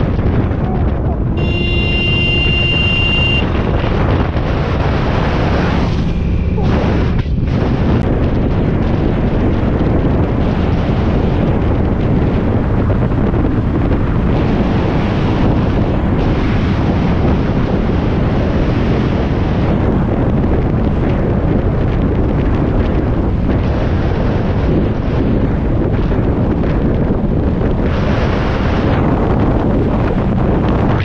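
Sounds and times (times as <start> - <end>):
motorcycle running: 0.0 - 31.0
wind rush on microphone: 0.0 - 31.0.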